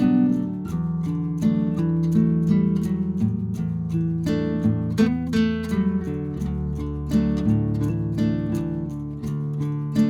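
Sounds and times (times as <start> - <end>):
acoustic guitar plucking and strumming: 0.0 - 10.0.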